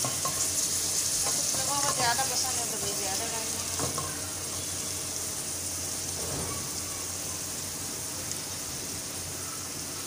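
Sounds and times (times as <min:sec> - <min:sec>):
liver sizzling in hot oil: 0:00.0 - 0:10.0.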